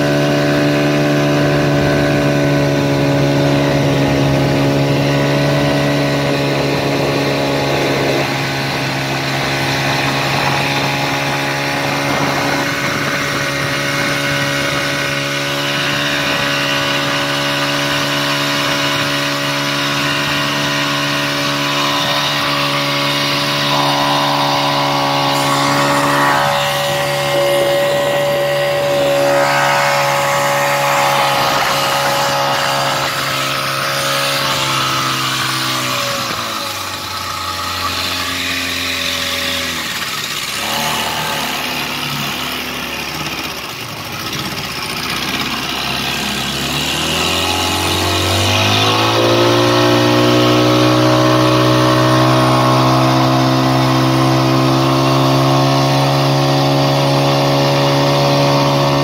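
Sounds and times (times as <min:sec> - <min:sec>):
rushing water and spray: 0:00.0 - 0:56.0
motorboat engine running: 0:00.0 - 0:59.0.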